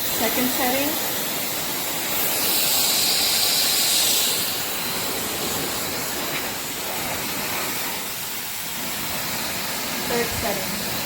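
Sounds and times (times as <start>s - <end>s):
hair dryer blowing air: 0.0s - 11.0s.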